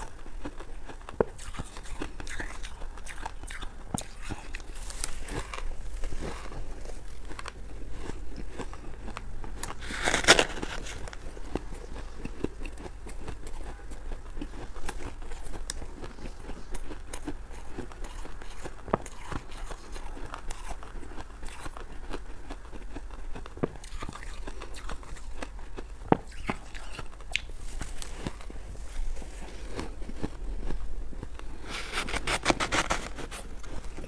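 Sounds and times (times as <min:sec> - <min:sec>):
crushed ice being chewed: 0:00.0 - 0:34.0.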